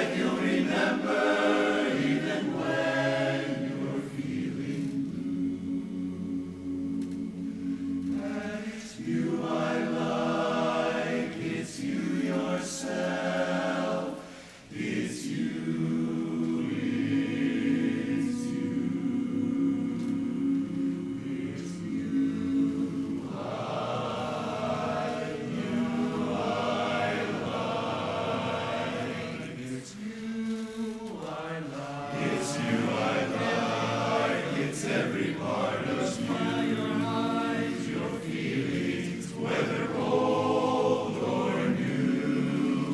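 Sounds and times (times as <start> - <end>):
barbershop chorus singing: 0.0 - 42.9.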